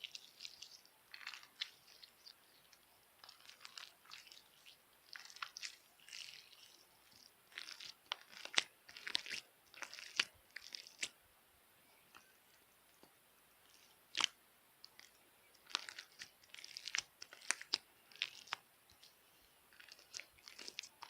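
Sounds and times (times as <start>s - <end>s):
slime crackling and popping: 0.0s - 2.4s, 3.2s - 11.2s, 13.6s - 19.1s, 19.7s - 21.0s.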